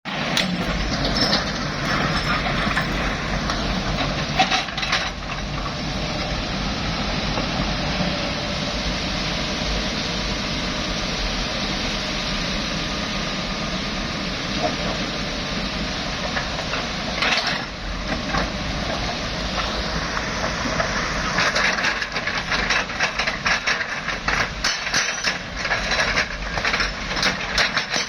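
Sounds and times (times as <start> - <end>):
diesel engine running: 0.1 - 28.0.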